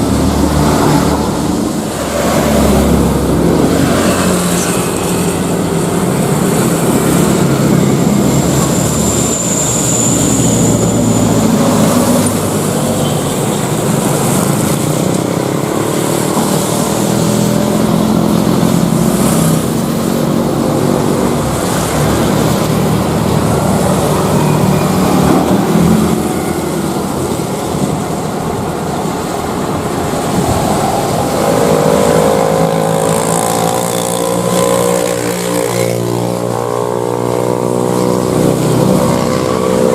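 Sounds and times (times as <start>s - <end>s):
jet engines rumbling: 0.0s - 34.5s
high engine whine: 0.0s - 39.9s.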